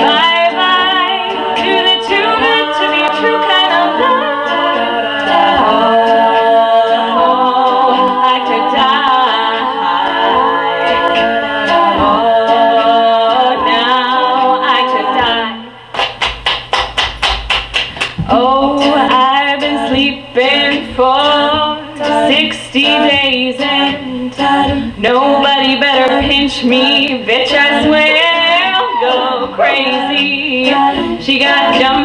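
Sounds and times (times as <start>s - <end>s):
women singing a cappella: 0.0s - 15.8s, 18.2s - 32.0s.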